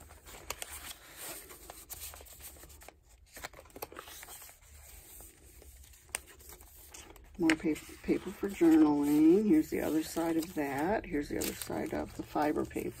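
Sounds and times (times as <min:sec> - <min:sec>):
paper rustling and sliding: 0:00.0 - 0:13.0.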